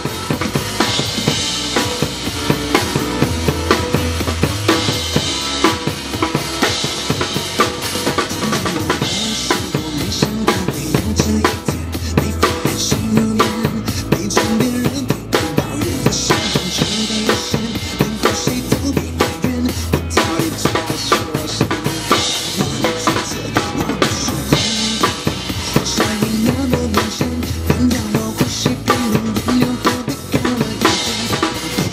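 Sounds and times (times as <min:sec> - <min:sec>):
drum kit pop groove: 0:00.0 - 0:31.9
recorded bass and keyboard: 0:00.0 - 0:31.9.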